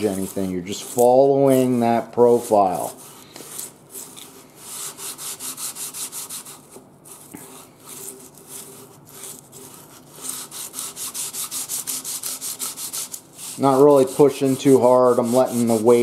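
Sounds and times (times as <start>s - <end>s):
sandpaper rubbing on metal: 0.0s - 16.0s.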